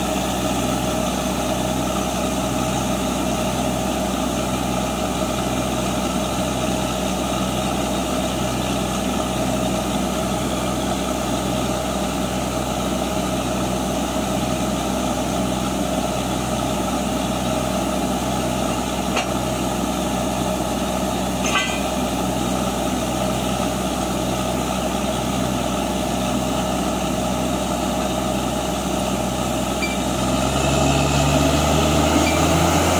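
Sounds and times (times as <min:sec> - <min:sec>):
diesel engine throbbing: 0:00.0 - 0:32.9.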